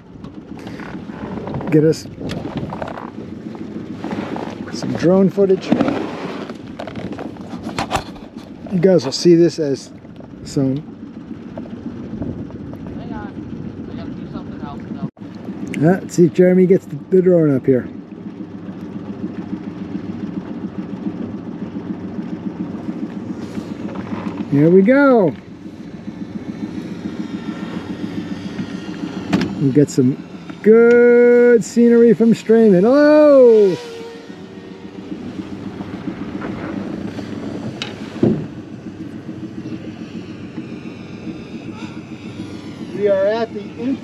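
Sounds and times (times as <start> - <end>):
wind buffeting microphone: 0.0 - 9.2, 9.8 - 44.0
engine idling: 0.0 - 44.0
motor humming: 0.0 - 44.0.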